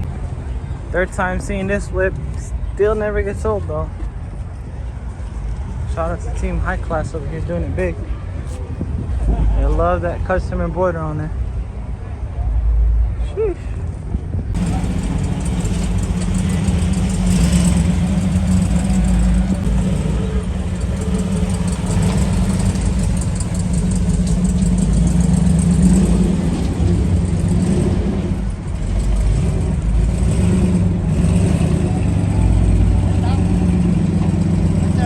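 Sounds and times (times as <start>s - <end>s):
car engine idling and revving: 0.0s - 13.2s, 13.8s - 35.0s.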